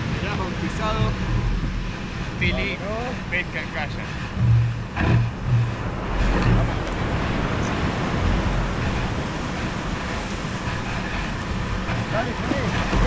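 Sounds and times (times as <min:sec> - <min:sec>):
surf washing: 0:00.0 - 0:13.0
wind on microphone: 0:00.0 - 0:13.0.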